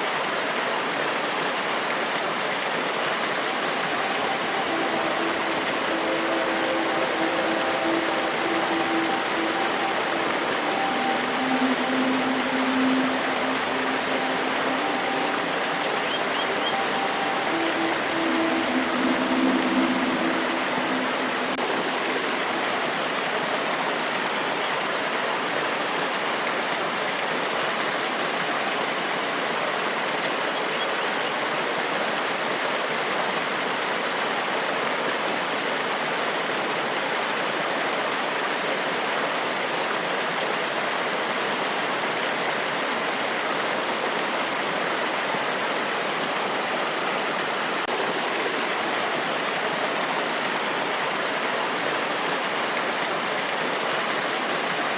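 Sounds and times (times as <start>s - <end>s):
water cascading over rocks: 0.0s - 54.9s.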